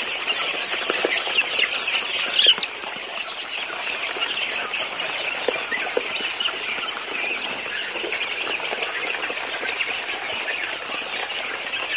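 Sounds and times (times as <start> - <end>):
chicks peeping: 0.0 - 11.9.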